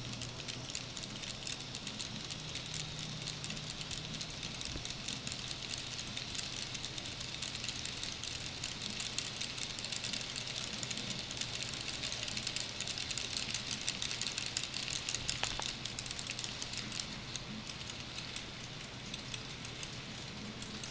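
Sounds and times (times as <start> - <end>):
model train wheels clicking on rails: 0.0 - 20.9
steady low hum: 0.0 - 20.9.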